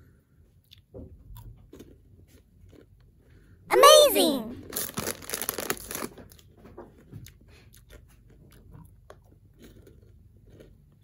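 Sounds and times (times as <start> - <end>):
chewing crunchy popcorn: 0.4 - 3.6, 4.6 - 11.0.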